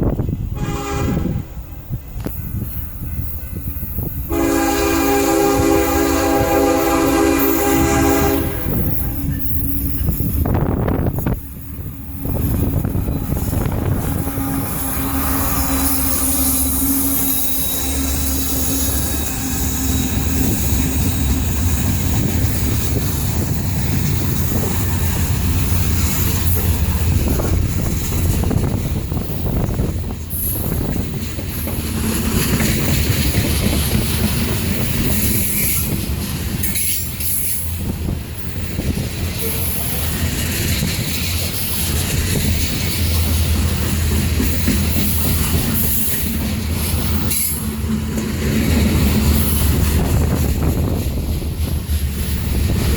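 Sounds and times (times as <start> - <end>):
train flanges squealing: 0.0 - 52.9
train wheels rumbling on rail: 0.0 - 52.9.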